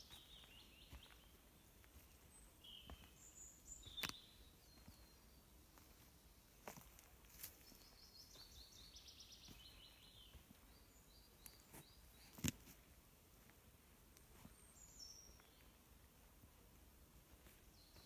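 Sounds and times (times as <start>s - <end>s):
songbird singing: 0.0s - 13.0s, 14.1s - 16.4s, 17.4s - 18.0s.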